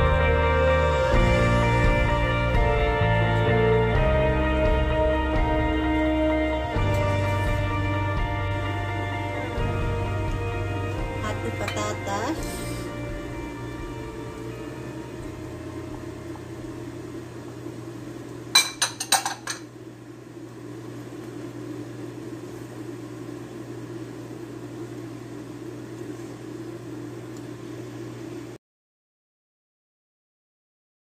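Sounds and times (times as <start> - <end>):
low kitchen hum: 0.0 - 28.6.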